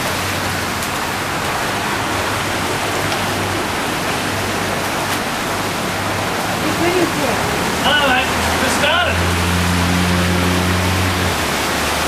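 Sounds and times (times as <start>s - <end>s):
water rushing on a flooded street: 0.0s - 12.0s.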